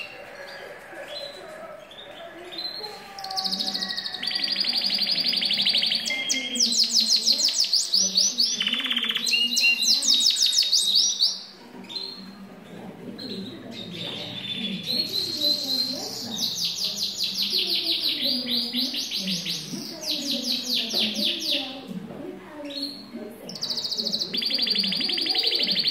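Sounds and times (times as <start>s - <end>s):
canary singing trills: 0.0s - 21.9s, 22.5s - 25.9s.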